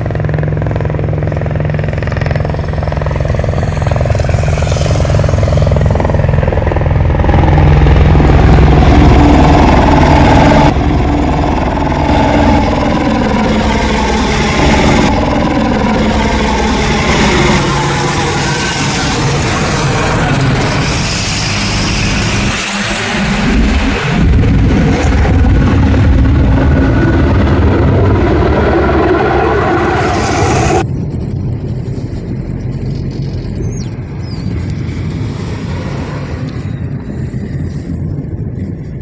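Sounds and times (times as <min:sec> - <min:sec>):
helicopter flying overhead: 0:00.0 - 0:39.0.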